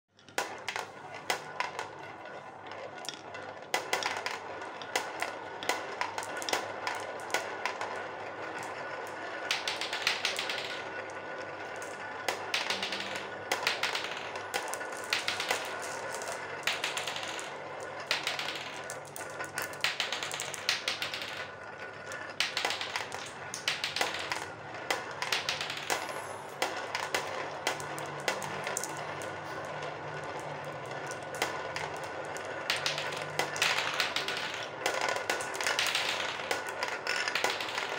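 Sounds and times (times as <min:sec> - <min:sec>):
marbles rolling on plastic: 0:00.1 - 0:37.9
marbles clicking together: 0:00.2 - 0:37.9.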